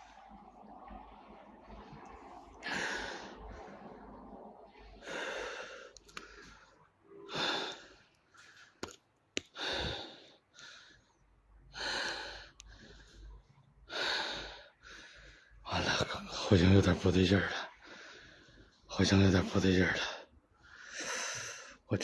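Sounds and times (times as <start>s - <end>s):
person breathing heavily: 1.6s - 17.0s, 17.6s - 21.9s.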